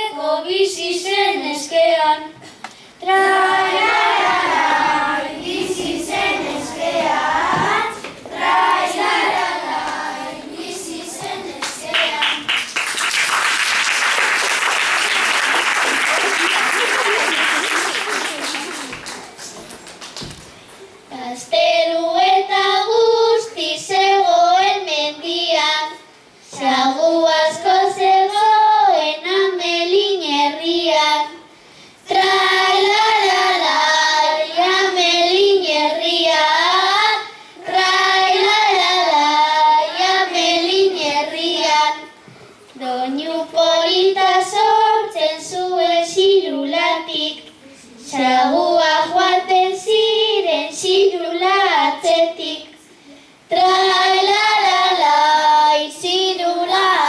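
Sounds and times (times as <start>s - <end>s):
child singing unaccompanied: 0.0s - 12.6s, 21.1s - 31.4s, 32.0s - 52.8s, 53.5s - 57.0s.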